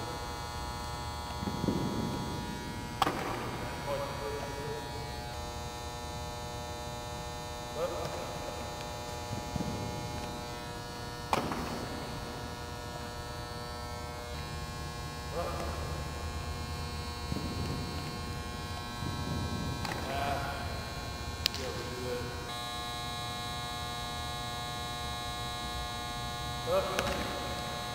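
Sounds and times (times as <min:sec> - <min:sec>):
steady electrical hum: 0:00.0 - 0:27.9.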